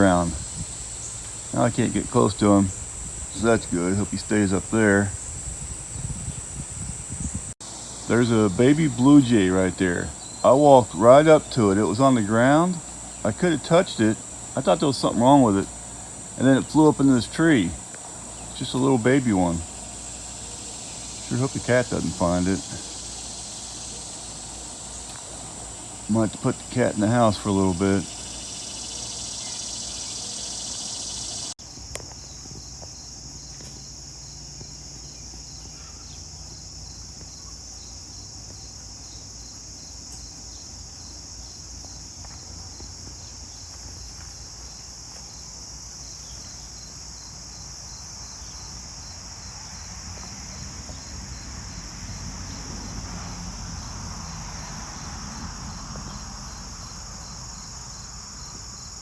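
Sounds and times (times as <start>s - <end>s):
cricket chirping steadily: 0.0s - 59.0s
insect chorus: 0.0s - 59.0s.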